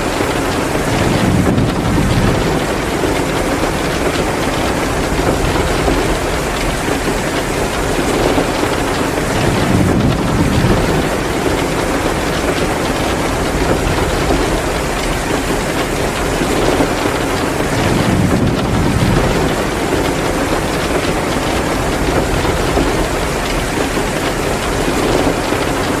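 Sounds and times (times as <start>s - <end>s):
heavy rain pouring: 0.0s - 26.0s
wood fire crackling: 0.0s - 26.0s.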